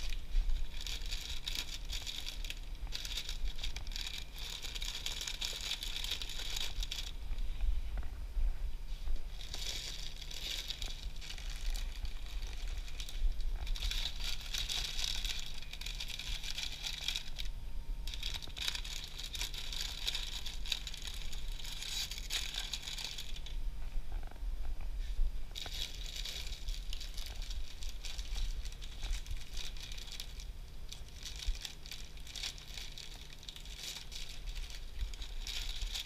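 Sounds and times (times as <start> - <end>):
plastic bags crinkling: 0.0 - 8.1, 9.0 - 24.4, 25.5 - 36.0
low hum: 0.0 - 36.0.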